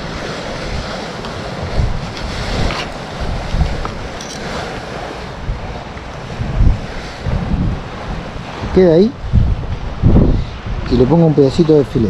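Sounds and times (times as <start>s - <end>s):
waves against a seawall: 0.0s - 12.0s
wind buffeting microphone: 0.0s - 12.0s.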